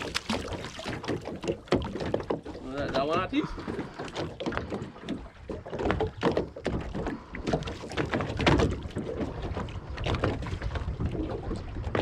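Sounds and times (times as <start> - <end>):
water sloshing against boat hull: 0.0 - 12.0.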